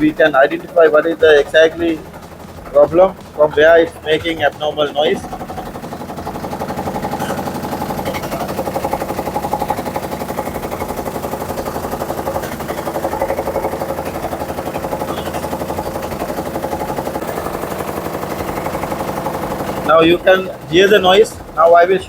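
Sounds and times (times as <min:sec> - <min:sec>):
washing machine drum spinning: 0:00.0 - 0:22.0
washing machine rattling knock: 0:00.0 - 0:22.0.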